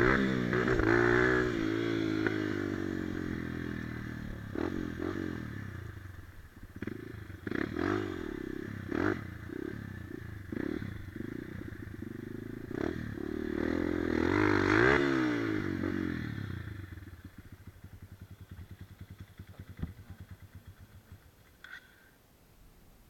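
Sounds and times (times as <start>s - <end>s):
dirt bike engine revving and idling: 0.0s - 21.9s.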